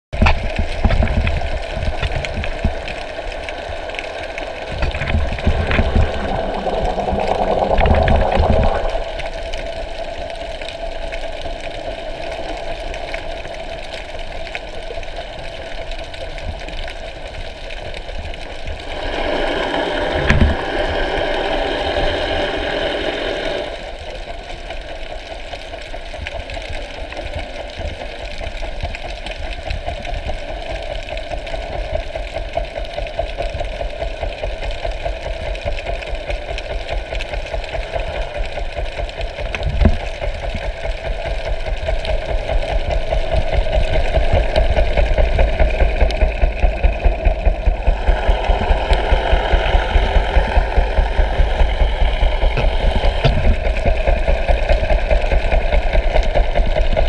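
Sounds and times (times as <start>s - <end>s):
underwater mechanical hum: 0.2s - 57.0s.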